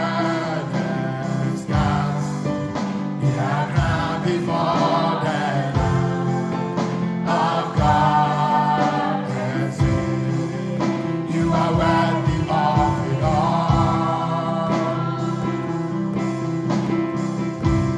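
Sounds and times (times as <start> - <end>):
group singing gospel: 0.0 - 17.9
keyboard and band accompaniment: 0.0 - 17.9.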